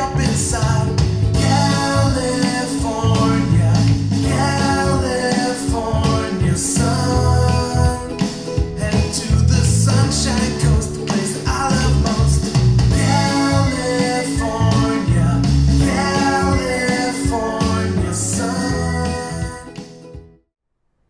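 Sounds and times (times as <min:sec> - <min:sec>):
rock song through small speakers: 0:00.0 - 0:20.3.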